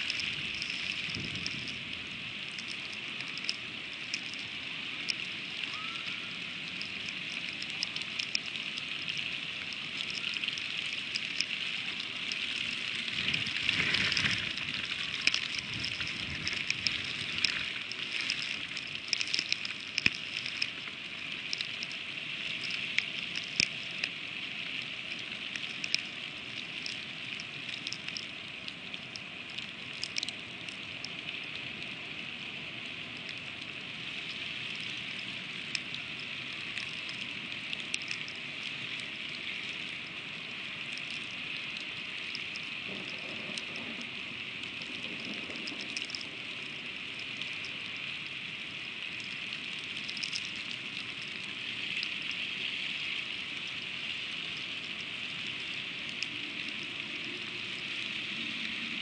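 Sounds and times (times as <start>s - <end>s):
ice ticking: 0.0s - 31.8s, 34.9s - 48.4s, 49.1s - 52.5s
freezing rain hiss: 0.0s - 59.0s.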